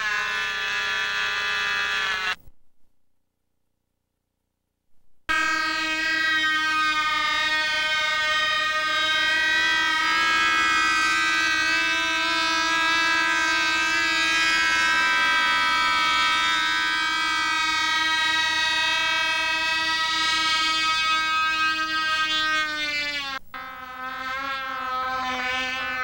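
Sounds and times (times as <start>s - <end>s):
drone engine buzzing whine: 0.0s - 2.5s, 5.3s - 26.0s.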